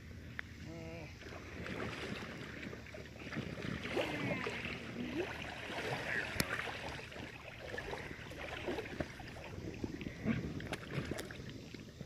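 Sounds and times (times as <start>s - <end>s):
water sloshing around kayak: 0.0s - 12.0s.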